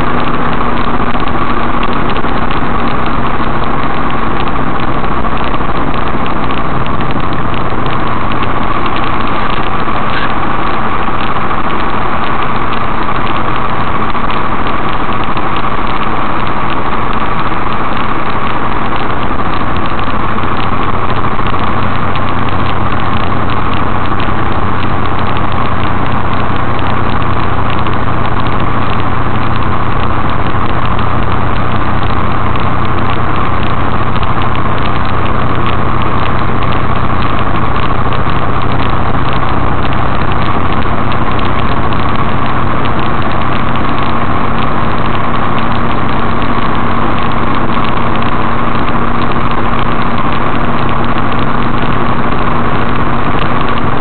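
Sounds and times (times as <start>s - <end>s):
road and wind noise: 0.0s - 54.0s
truck engine hum: 0.0s - 54.0s.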